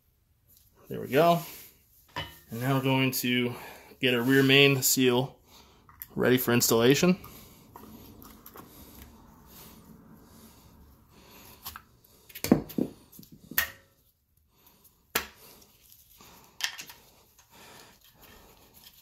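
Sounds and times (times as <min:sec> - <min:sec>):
quiet rubbing and handling: 0:00.4 - 0:12.1, 0:14.0 - 0:19.0.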